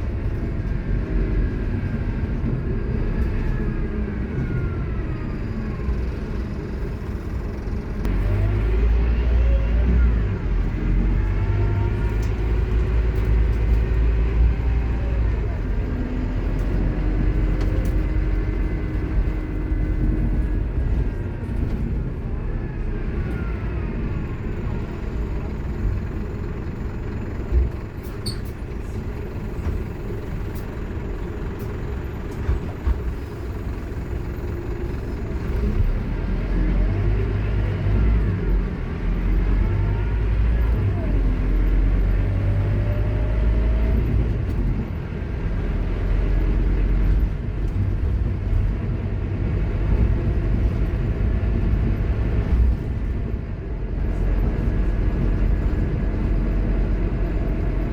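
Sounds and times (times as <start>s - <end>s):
bus engine rumbling: 0.0s - 57.9s.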